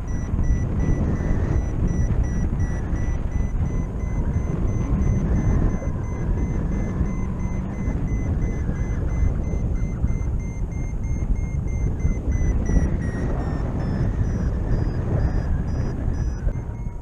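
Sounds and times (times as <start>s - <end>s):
variometer beeping: 0.0s - 17.0s
wind rushing over microphone: 0.0s - 17.0s.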